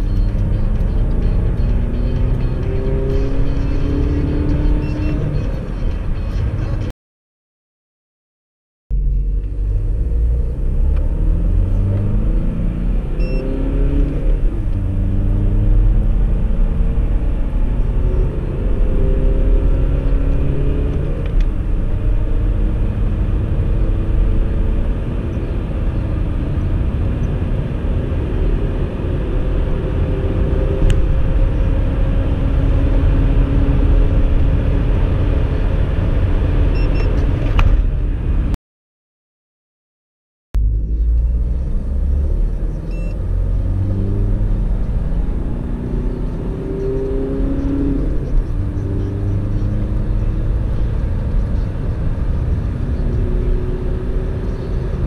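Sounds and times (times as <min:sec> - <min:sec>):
diesel engine accelerating hard: 0:00.0 - 0:06.9, 0:08.9 - 0:38.6, 0:40.6 - 0:55.0
road rumble: 0:00.0 - 0:06.9, 0:08.9 - 0:38.6, 0:40.6 - 0:55.0.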